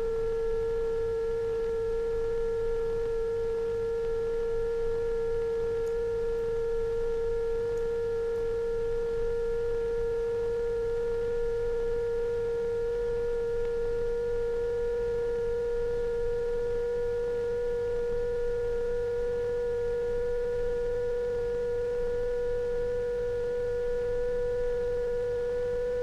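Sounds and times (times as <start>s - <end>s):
electronic sine-wave tone: 0.0s - 26.0s.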